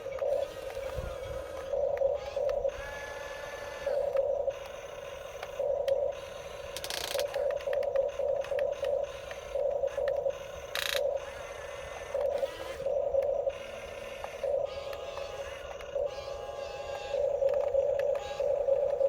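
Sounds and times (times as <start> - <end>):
small electric motors whirring: 0.0 - 19.0.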